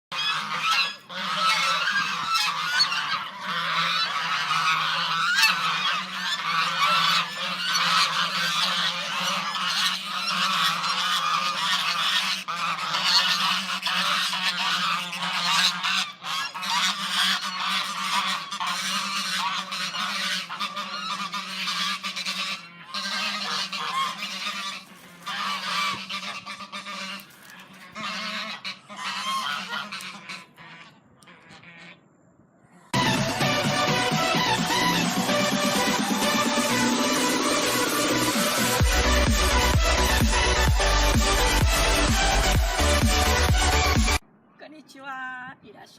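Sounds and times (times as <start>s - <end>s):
flock of birds calling: 0.1s - 32.0s, 32.7s - 44.2s.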